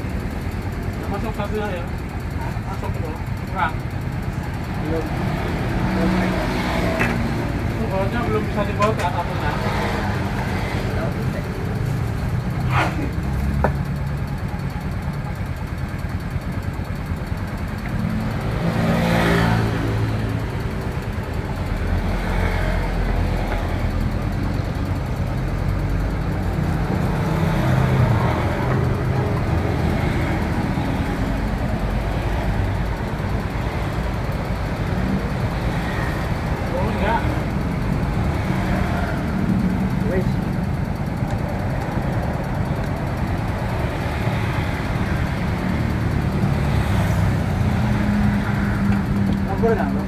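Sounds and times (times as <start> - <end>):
vehicle engines rumbling: 0.0 - 50.0.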